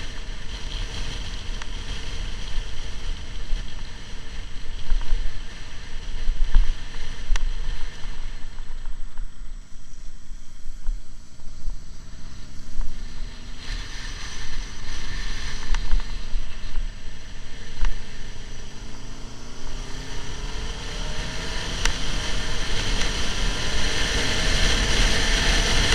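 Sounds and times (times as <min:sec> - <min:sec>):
motorcycle engine: 0:00.0 - 0:25.9
wind rumble on microphone: 0:00.0 - 0:25.9.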